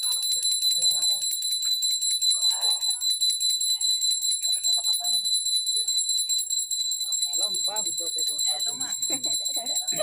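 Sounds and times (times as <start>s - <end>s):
small metal bell ringing: 0.0s - 10.0s.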